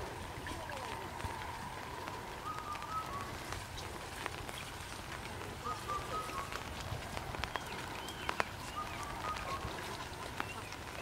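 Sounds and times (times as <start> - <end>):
rain on water and leaves: 0.0 - 11.0
sharp drips: 0.0 - 11.0.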